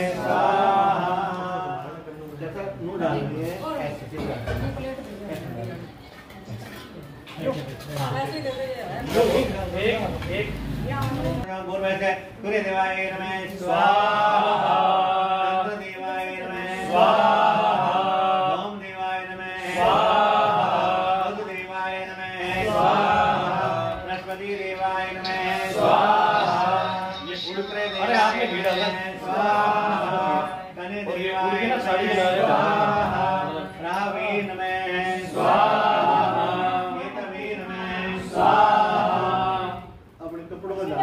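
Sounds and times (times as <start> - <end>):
voices chanting mantras: 0.0 - 2.8, 9.2 - 40.2.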